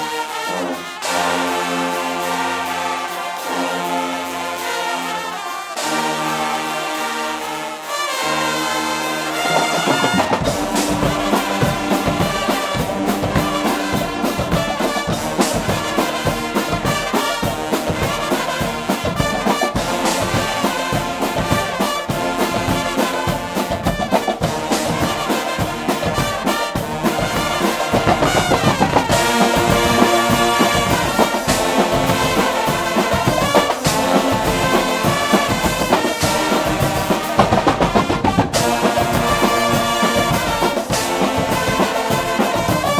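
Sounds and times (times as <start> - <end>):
brass band playing loud: 0.0 - 42.9
drums steady beat: 7.9 - 42.9.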